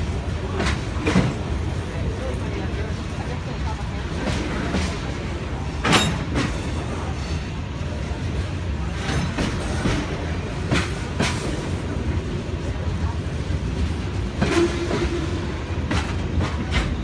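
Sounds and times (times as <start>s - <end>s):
freight train cars rumbling: 0.0s - 17.0s.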